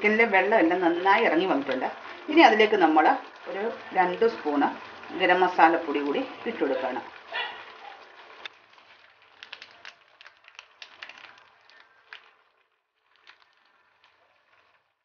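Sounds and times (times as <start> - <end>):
chicken simmering in a pan: 0.0 - 15.0
faint crackles and pops: 0.0 - 15.0.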